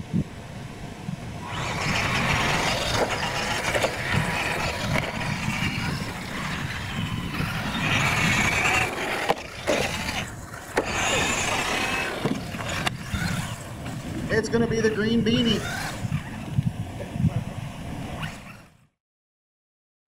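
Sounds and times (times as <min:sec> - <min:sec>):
rc truck motors whining: 0:01.3 - 0:19.0.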